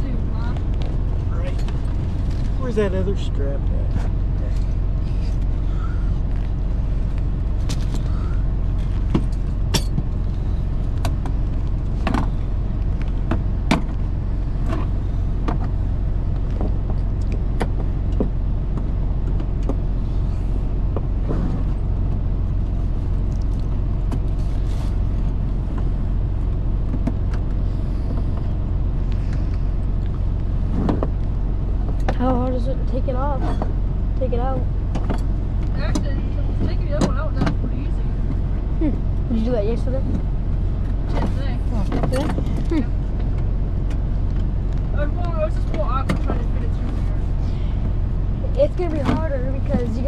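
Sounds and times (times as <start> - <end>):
truck diesel engine idling: 0.0 - 50.0.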